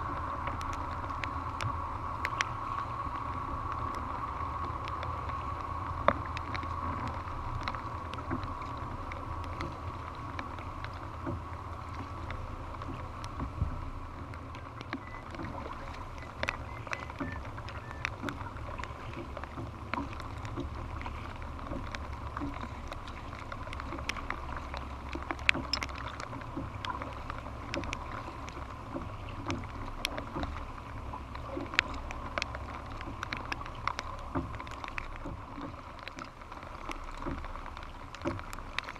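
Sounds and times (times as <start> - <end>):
paddle splashes: 0.0 - 38.9
sharp ticks and knocks: 0.0 - 38.9
water moving along hull: 0.0 - 38.9
wind rumble on microphone: 0.0 - 38.9.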